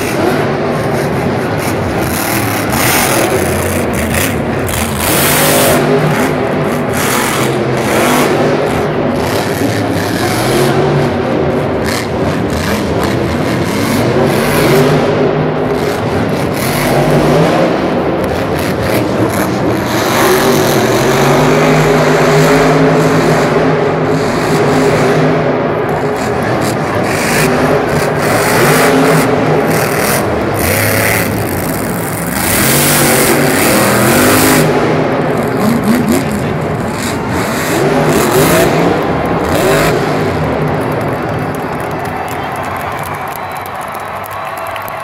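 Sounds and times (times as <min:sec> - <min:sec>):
monster truck engine revving: 0:00.0 - 0:45.0.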